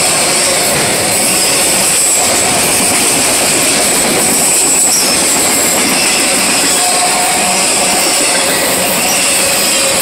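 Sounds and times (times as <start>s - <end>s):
steel wheels rushing on rail: 0.0s - 10.0s.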